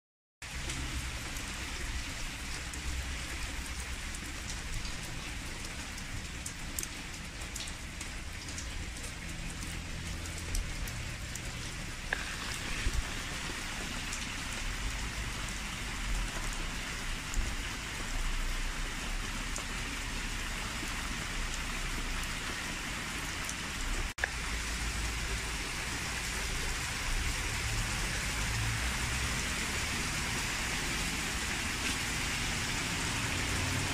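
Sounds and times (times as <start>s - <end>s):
rain drops ticking: 0.4s - 33.9s
rain on wet pavement: 0.4s - 33.9s.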